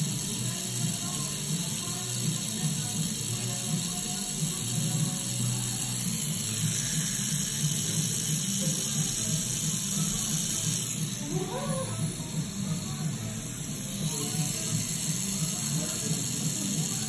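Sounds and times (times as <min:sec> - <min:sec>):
tattoo machine buzzing: 0:00.0 - 0:17.0
background music: 0:00.1 - 0:17.0.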